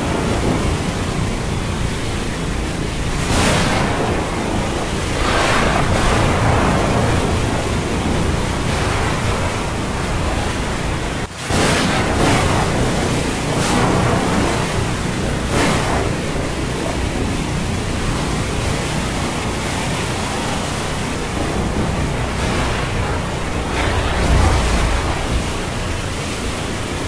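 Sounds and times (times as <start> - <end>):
waves rushing: 0.0 - 27.0
wind: 0.0 - 27.0.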